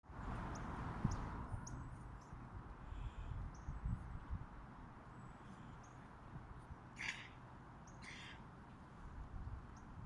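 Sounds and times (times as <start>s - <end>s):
wind rumbling on microphone: 0.0s - 6.9s, 8.8s - 10.0s.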